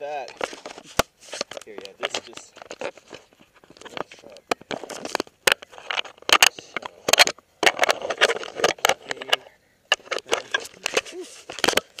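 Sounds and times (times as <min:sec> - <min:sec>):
camera handling knocks and scrapes: 0:00.3 - 0:12.0.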